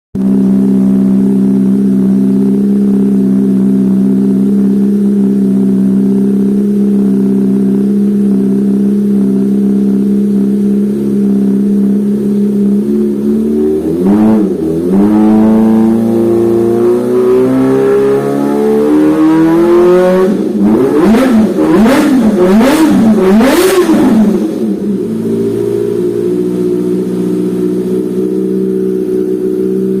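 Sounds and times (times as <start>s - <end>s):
motorcycle engine idling and revving: 0.2s - 30.0s.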